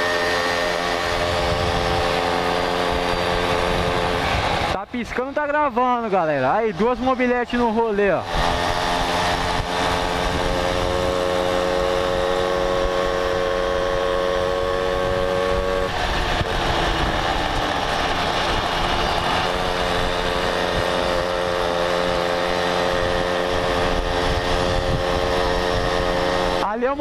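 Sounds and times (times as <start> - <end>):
wind noise on microphone: 0.0 - 5.5, 6.7 - 27.0
moped engine running: 0.0 - 27.0.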